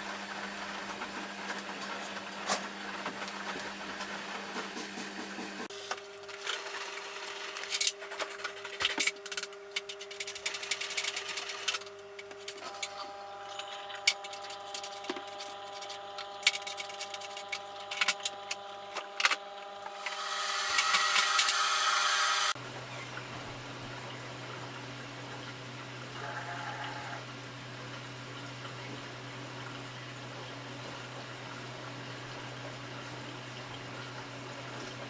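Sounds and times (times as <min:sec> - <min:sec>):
washing machine motor hum: 0:00.0 - 0:35.0.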